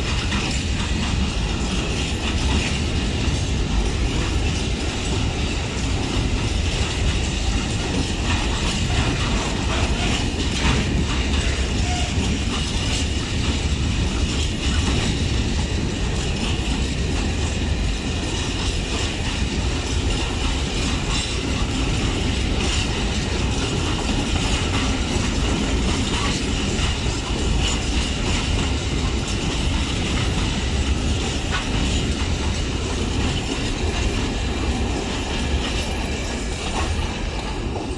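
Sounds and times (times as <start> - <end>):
freight train wheels clacking: 0.0 - 37.9.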